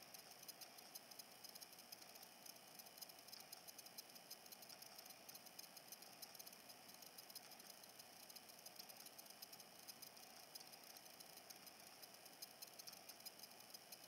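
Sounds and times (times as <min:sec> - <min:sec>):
faint rapid high ticking: 0:00.0 - 0:14.0.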